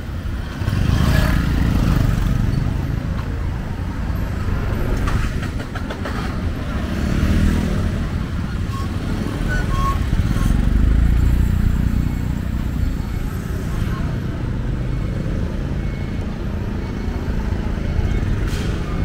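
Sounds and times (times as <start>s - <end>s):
motorbike engines passing: 0.0s - 19.0s.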